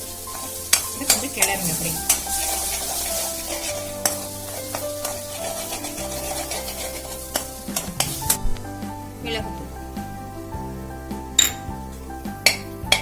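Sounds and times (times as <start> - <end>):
background music with held notes: 0.0 - 13.0
food sizzling in oil: 0.0 - 13.0.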